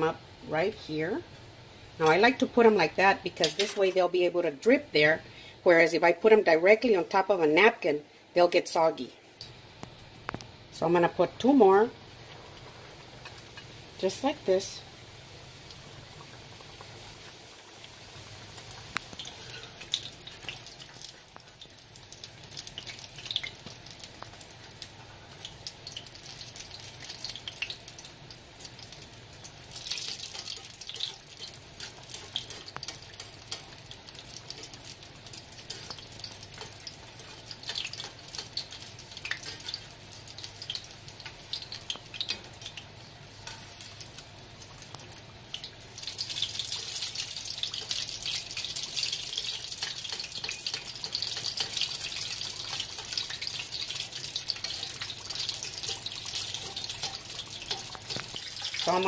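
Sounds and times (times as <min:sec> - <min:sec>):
hot oil sizzling and crackling: 0:00.0 - 0:59.0.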